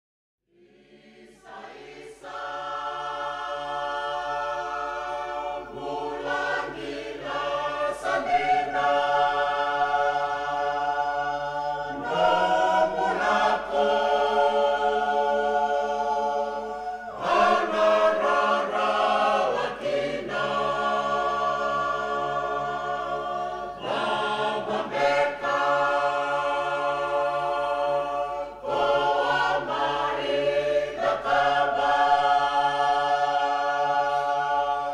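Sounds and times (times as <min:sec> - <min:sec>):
choir singing held chords: 0:00.5 - 0:34.9.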